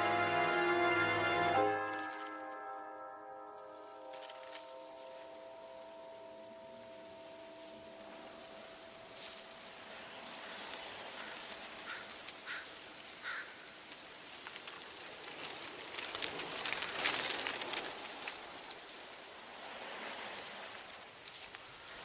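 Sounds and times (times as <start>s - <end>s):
leaves rustling in wind: 3.7s - 22.0s.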